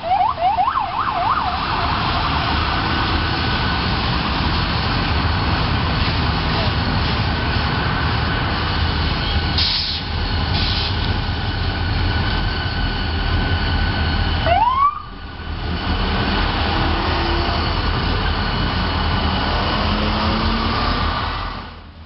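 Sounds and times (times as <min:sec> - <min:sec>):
diesel locomotive engine rumble: 0:00.0 - 0:22.0
rail and wheel noise: 0:00.0 - 0:22.0.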